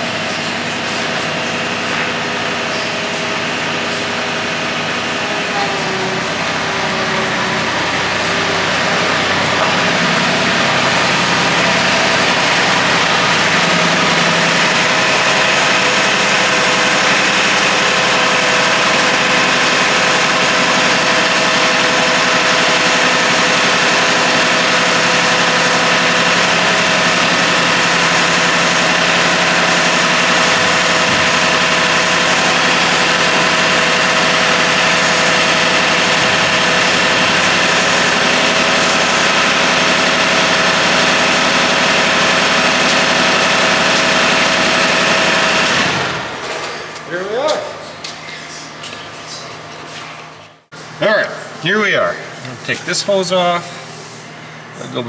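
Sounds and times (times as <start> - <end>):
garden tractor diesel engine running: 0.0 - 48.8, 50.6 - 55.0.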